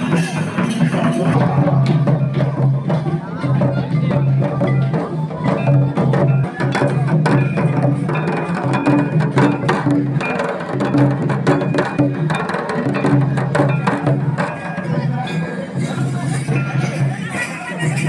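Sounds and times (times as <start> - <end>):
barrel drum dance rhythm: 0.0 - 18.0.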